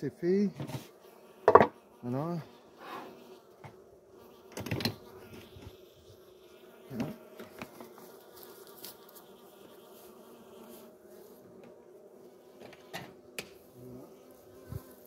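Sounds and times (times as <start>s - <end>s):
honeybees buzzing: 0.2s - 15.0s.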